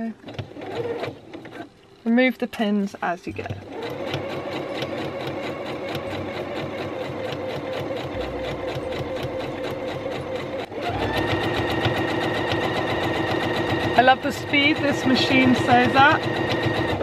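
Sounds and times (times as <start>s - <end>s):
sewing machine stitching: 0.0s - 1.7s, 3.5s - 17.0s.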